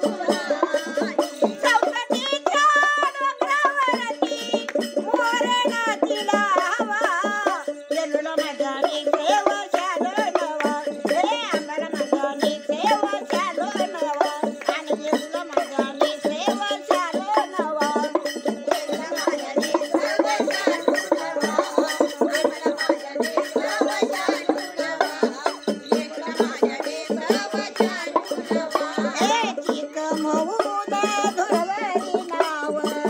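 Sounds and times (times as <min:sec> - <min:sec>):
hand percussion rhythm: 0:00.0 - 0:33.0
women singing folk song: 0:00.0 - 0:33.0.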